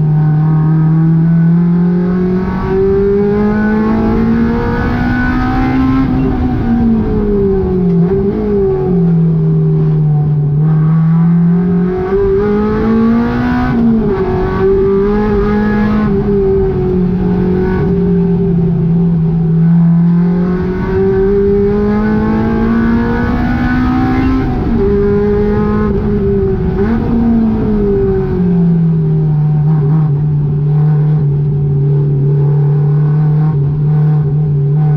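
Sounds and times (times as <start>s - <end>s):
car engine screaming at high revs: 0.0s - 34.9s.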